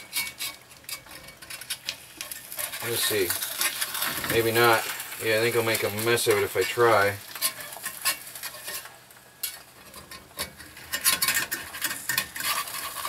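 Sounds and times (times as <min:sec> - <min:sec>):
egg sizzling: 0:00.0 - 0:13.0
spatula scraping skillet: 0:00.0 - 0:13.0.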